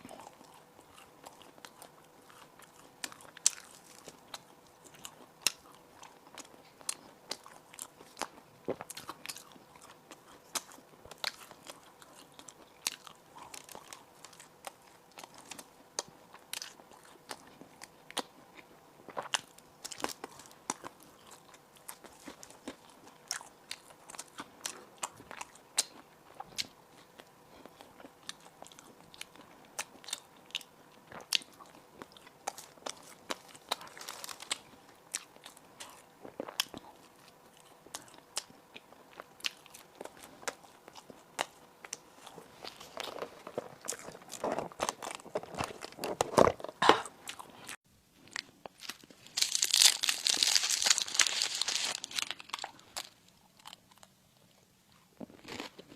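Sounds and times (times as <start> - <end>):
crunching and chewing food: 0.0 - 55.9.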